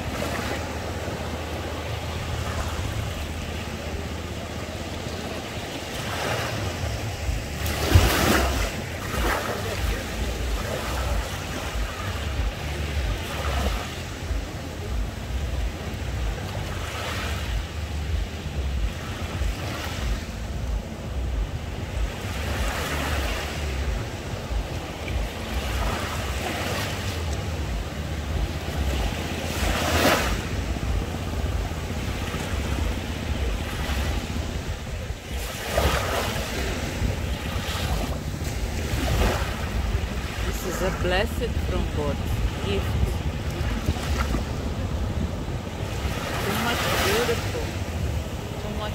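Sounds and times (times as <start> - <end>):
small waves breaking on beach: 0.0 - 48.9
wind rumble on microphone: 0.0 - 48.9.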